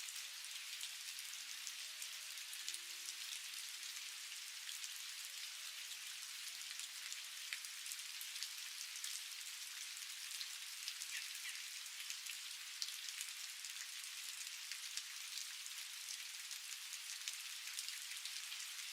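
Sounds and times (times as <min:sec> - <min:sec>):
steady rain: 0:00.0 - 0:18.9.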